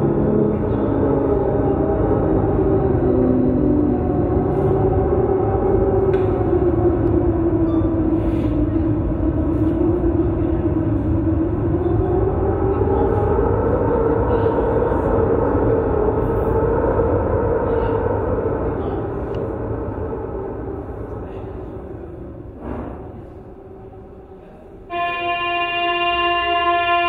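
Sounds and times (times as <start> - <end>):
low rumble: 0.0 - 24.9
held drone tone rising in pitch: 0.0 - 27.0.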